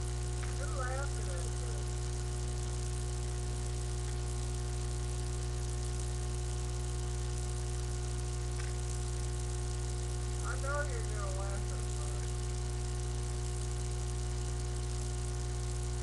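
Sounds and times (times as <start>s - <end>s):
constant hiss: 0.0s - 16.0s
low electrical hum: 0.0s - 16.0s.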